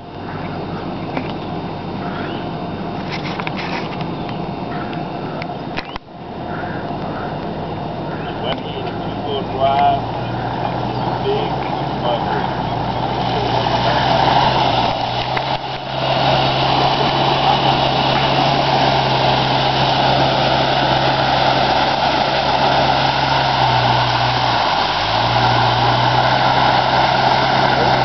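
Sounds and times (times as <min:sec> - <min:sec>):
truck engine under load: 0:00.0 - 0:28.0.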